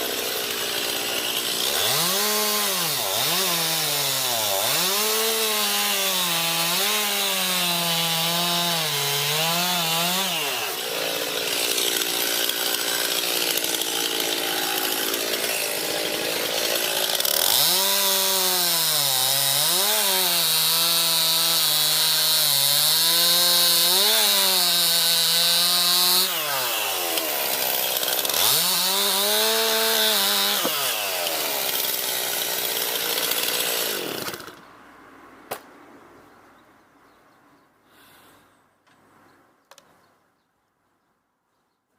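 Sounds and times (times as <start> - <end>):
chainsaw cutting wood: 0.0 - 34.7.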